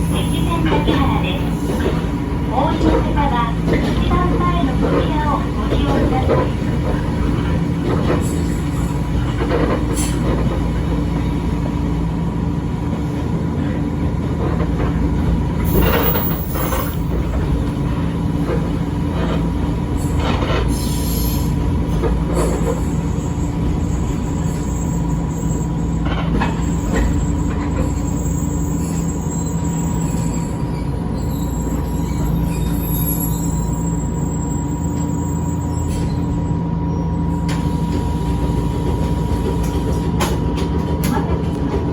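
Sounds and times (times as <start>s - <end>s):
railcar rumble and hum: 0.0s - 41.9s.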